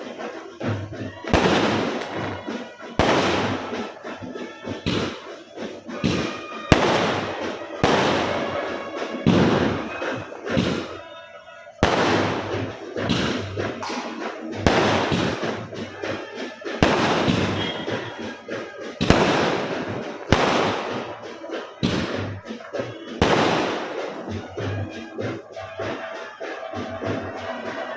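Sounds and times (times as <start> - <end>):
firecrackers banging: 0.0 - 27.9.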